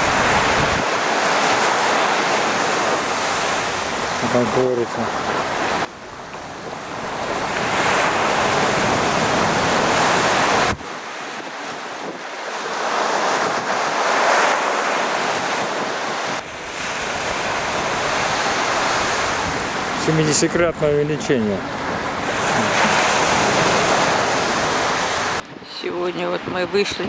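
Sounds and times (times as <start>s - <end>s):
wind buffeting microphone: 0.0s - 12.3s, 12.9s - 27.0s
waves breaking on shore: 0.0s - 25.5s.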